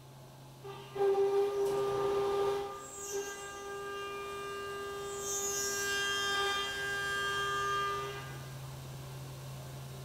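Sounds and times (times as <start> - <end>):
milling machine whine: 0.4 - 9.2.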